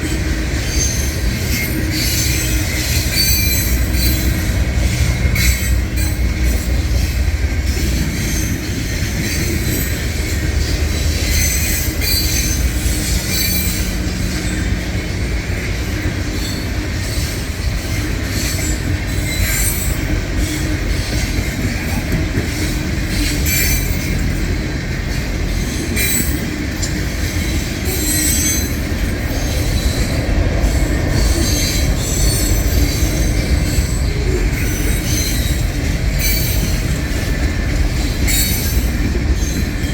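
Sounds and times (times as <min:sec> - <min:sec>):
freight train rumbling on rails: 0:00.0 - 0:39.9
wheel squeals: 0:00.0 - 0:39.9.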